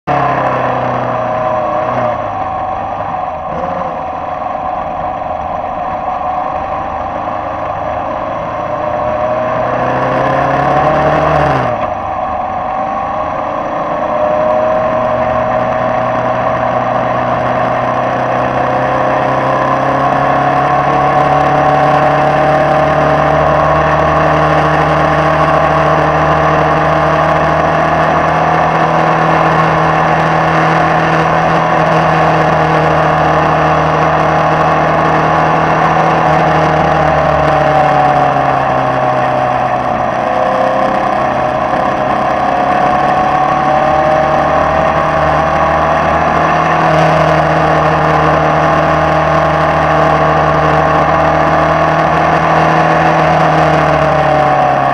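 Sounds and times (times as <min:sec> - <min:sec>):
racing car engine revving: 0:00.0 - 0:54.9.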